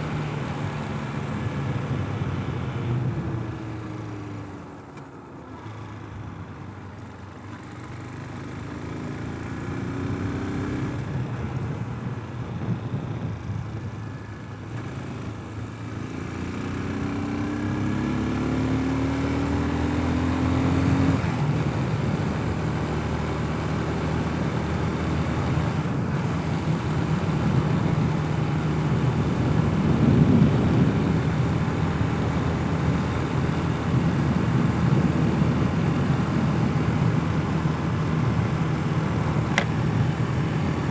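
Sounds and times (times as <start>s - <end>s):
road and wind noise: 0.0s - 40.9s
motorcycle engine accelerating: 7.2s - 40.9s.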